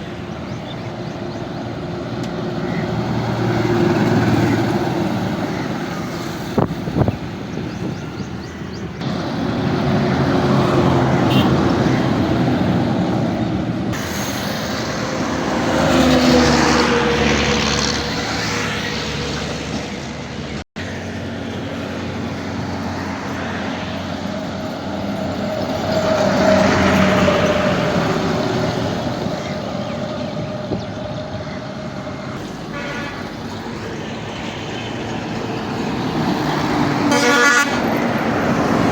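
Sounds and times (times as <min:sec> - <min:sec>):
trucks and tractors driving past: 0:00.0 - 0:38.9.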